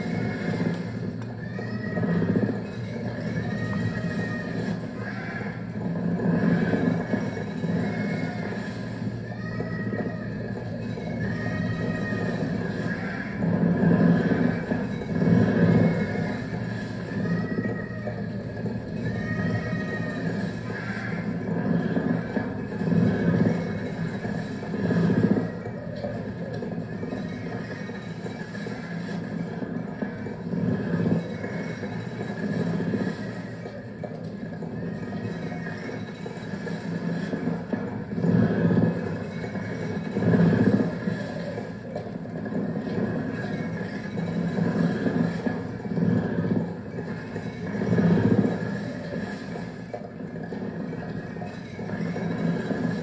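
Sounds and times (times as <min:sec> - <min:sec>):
murky cassette tape loops: 0:00.0 - 0:53.0
wavering low drone: 0:00.0 - 0:53.0.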